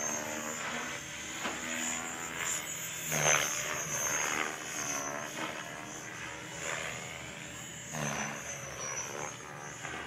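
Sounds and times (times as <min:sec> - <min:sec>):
model helicopter rotor whine: 0:00.0 - 0:10.0.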